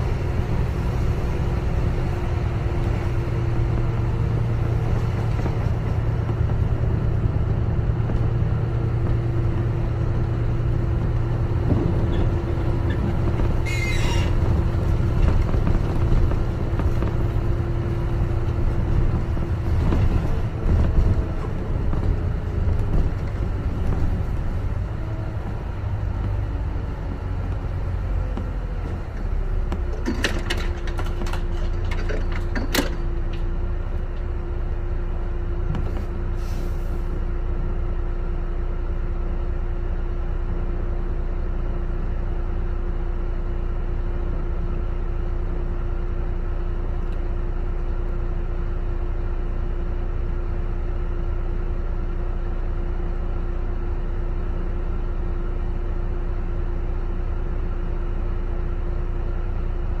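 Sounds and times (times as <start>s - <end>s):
bus engine rumbling: 0.0s - 60.0s.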